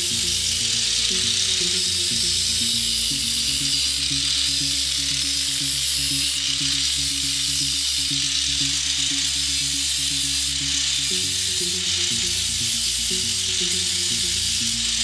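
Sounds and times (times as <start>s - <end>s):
electronic music with low bass: 0.0s - 15.0s.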